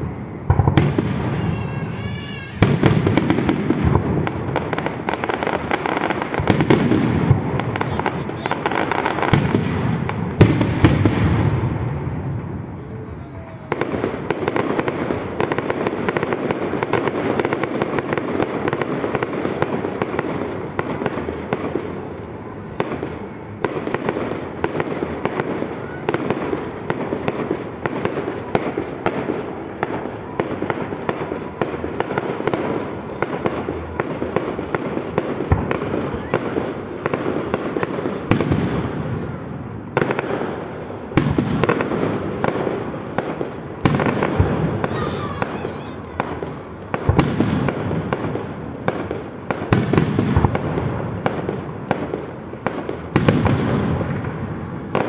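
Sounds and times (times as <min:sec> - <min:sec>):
fireworks booms: 0:00.0 - 0:55.0
fireworks crackling: 0:00.0 - 0:55.0.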